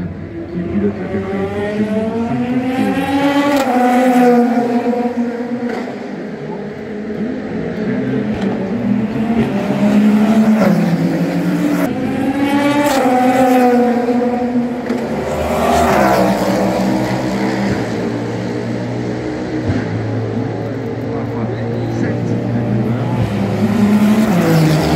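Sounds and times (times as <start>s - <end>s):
race cars passing at speed: 0.0s - 24.9s.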